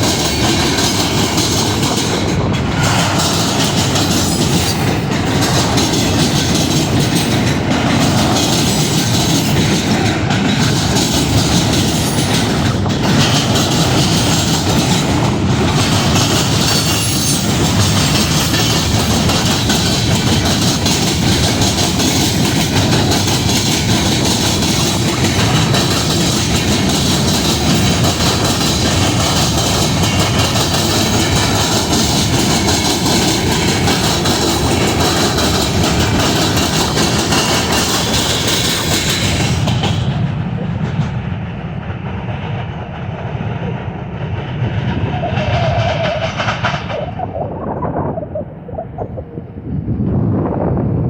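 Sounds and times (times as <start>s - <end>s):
clickety-clack over rail joints: 0.0s - 47.6s
train wheels rumbling on rails: 0.0s - 51.0s.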